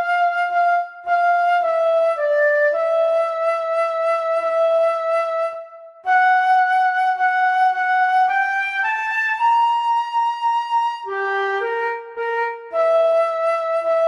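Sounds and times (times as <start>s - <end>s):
flute playing slow melody: 0.0s - 14.0s.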